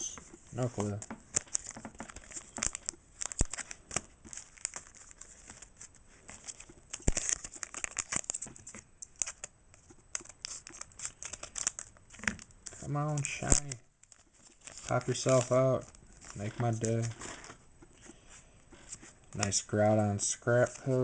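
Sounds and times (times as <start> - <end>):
foil wrapper crinkling and tearing: 0.6 - 17.6.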